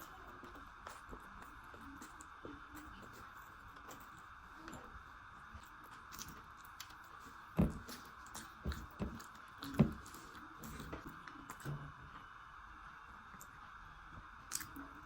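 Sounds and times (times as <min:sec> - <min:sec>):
person chewing food: 0:00.0 - 0:11.7, 0:14.5 - 0:15.0.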